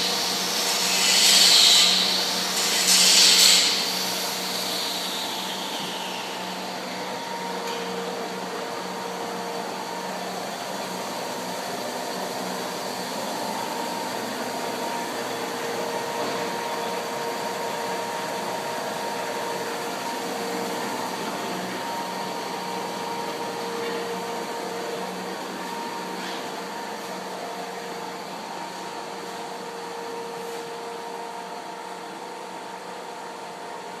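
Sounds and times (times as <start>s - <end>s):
lathe running: 0.0s - 33.5s.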